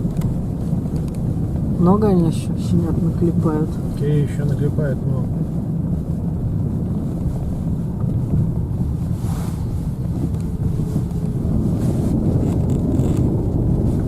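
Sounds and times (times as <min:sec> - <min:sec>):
car cabin road and engine noise: 0:00.0 - 0:14.0.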